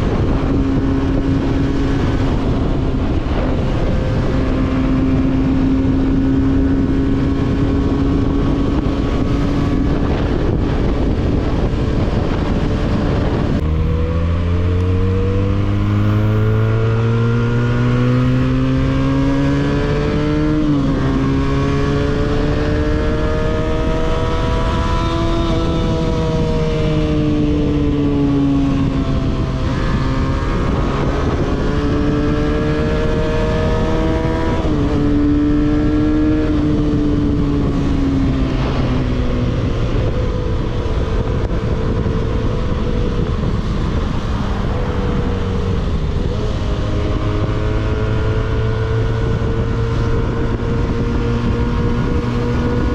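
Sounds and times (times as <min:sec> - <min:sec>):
constant rushing noise: 0:00.0 - 0:52.9
motorcycle engine accelerating: 0:00.0 - 0:52.9.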